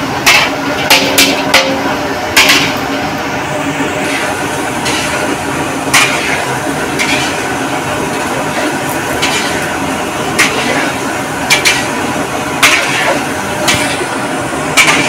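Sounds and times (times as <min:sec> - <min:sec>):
oil sizzling in wok: 0:00.0 - 0:15.0.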